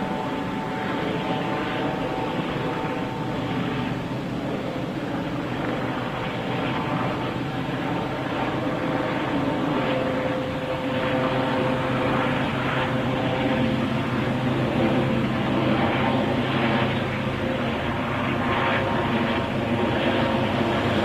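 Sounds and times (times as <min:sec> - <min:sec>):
helicopter turbine drone and whine: 0:00.0 - 0:21.0.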